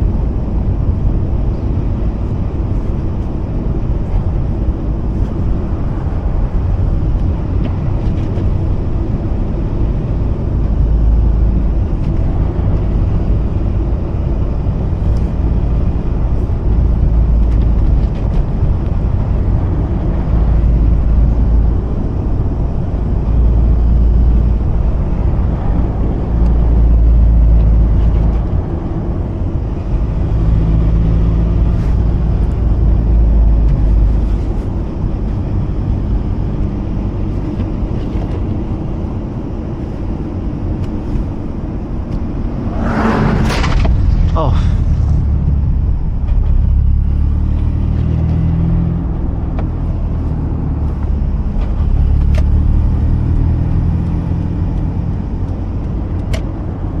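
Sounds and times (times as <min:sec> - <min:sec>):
road and tyre rumble: 0:00.0 - 0:57.0
rotary car engine running: 0:00.0 - 0:57.0.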